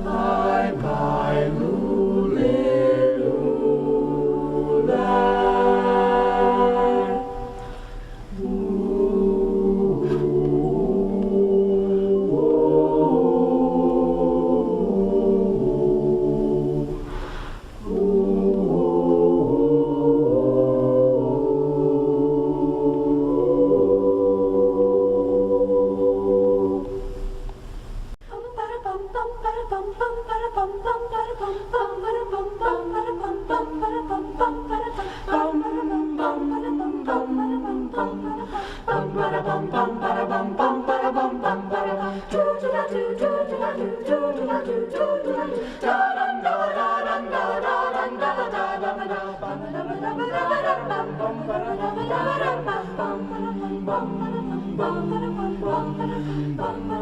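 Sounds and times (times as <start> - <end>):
choir singing a cappella: 0.0 - 27.5, 28.2 - 57.0.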